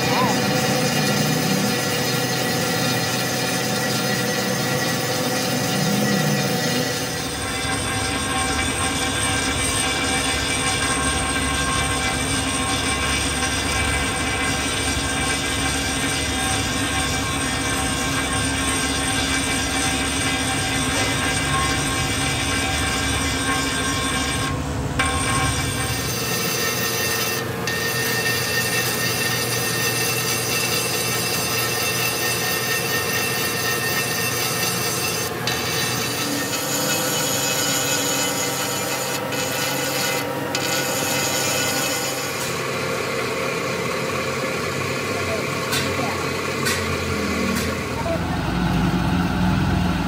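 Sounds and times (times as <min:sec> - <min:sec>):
tool scraping metal: 0:00.0 - 0:42.9, 0:44.7 - 0:48.2.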